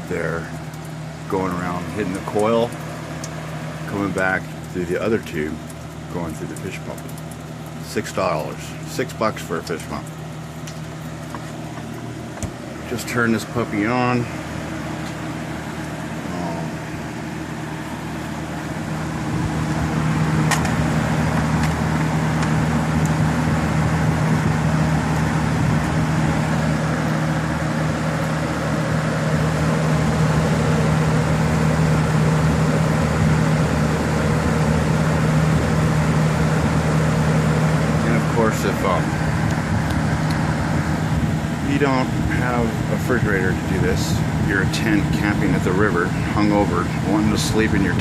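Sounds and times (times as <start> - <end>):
electric fan motor and air: 0.0 - 48.0.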